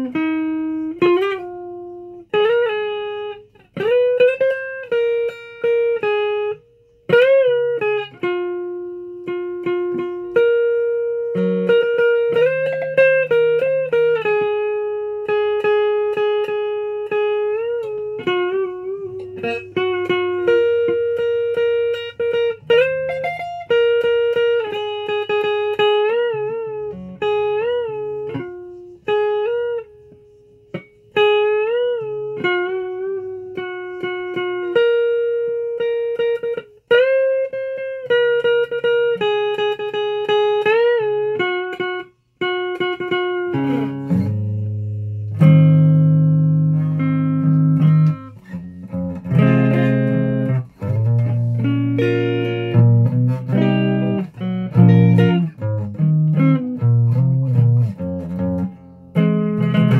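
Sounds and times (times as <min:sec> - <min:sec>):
guitar melody with bent notes: 0:00.0 - 0:59.9.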